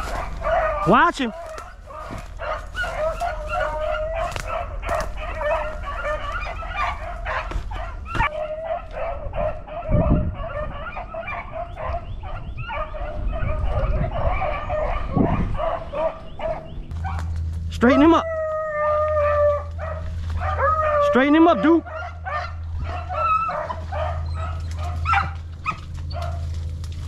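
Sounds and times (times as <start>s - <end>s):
dogs baying and barking: 0.0s - 27.0s.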